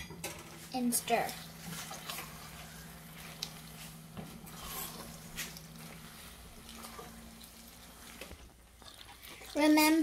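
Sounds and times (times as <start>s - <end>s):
faint steady hum: 0.0s - 10.0s
spatula stirring in a pan: 1.1s - 10.0s.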